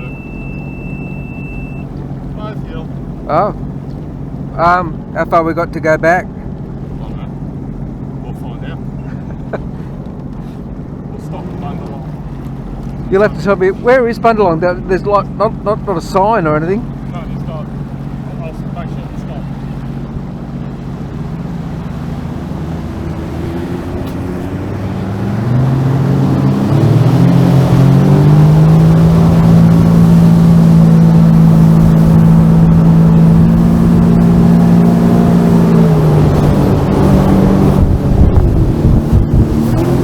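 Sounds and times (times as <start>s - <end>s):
jet ski engine: 0.0s - 40.0s
wind and water splashing: 0.0s - 40.0s.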